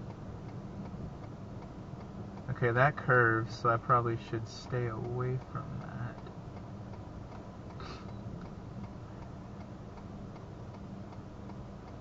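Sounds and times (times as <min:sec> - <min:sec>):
low steady hum: 0:00.0 - 0:12.0
turn signal ticking: 0:00.0 - 0:12.0.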